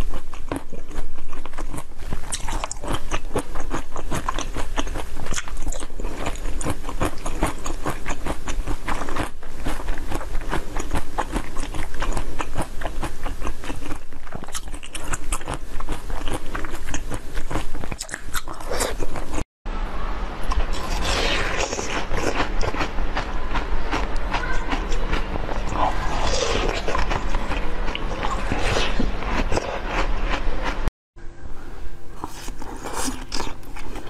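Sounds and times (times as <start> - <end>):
chewing jelly cubes: 0.0 - 19.4, 20.5 - 30.9, 32.2 - 34.0.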